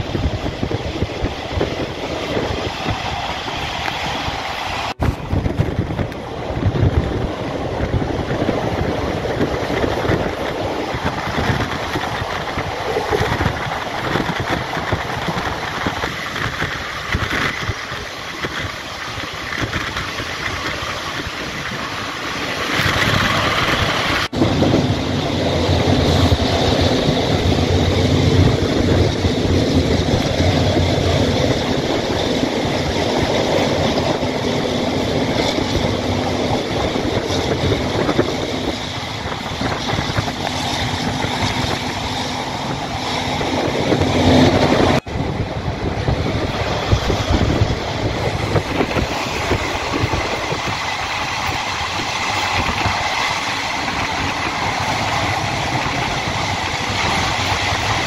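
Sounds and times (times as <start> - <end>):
train rumbling on track: 0.0 - 58.0
wind from open window: 0.0 - 58.0.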